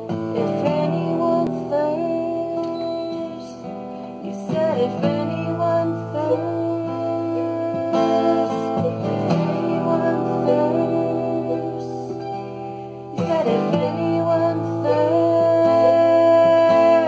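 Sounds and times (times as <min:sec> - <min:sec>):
acoustic guitar strummed slowly: 0:00.0 - 0:17.0
mandolin: 0:00.0 - 0:17.0.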